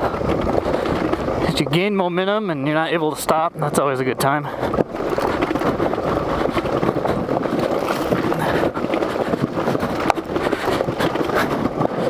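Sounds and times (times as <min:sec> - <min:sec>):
motorbike rattling over ruts: 0:00.0 - 0:12.0
tyres crunching on gravel: 0:00.0 - 0:12.0
wind noise on microphone: 0:00.0 - 0:12.0.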